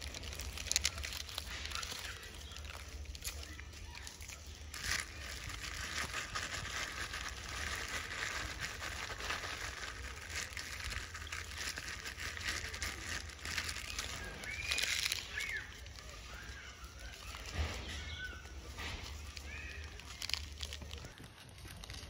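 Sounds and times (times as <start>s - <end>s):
plastic wrapper crinkling: 0.0s - 22.0s.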